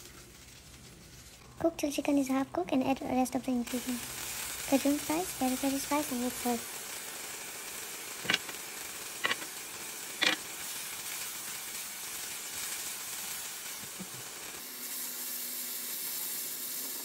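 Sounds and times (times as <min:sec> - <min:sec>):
chicken sizzling in a pot: 0:00.0 - 0:17.0.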